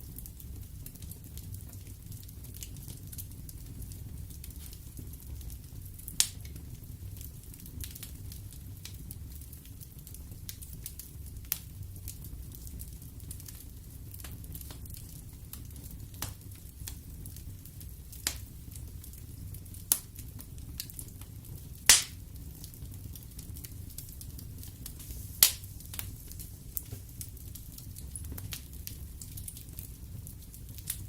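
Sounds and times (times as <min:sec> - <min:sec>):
burning wood crackling and popping: 0:00.0 - 0:31.0
fire rumbling in fireplace: 0:00.0 - 0:31.0.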